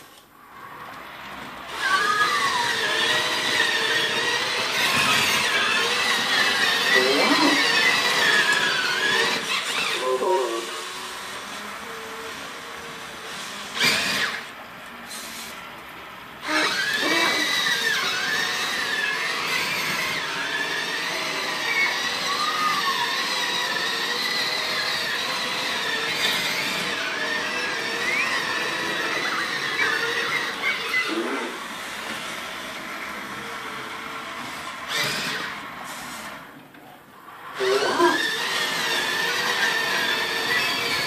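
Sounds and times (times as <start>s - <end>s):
toy robot motors whirring: 1.7s - 14.5s, 16.4s - 36.5s, 37.4s - 41.0s.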